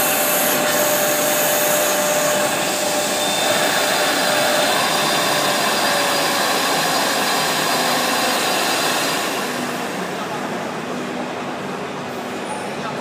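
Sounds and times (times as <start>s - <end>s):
faint high whine: 0.0s - 11.0s
blower and spindle drone: 0.0s - 11.1s.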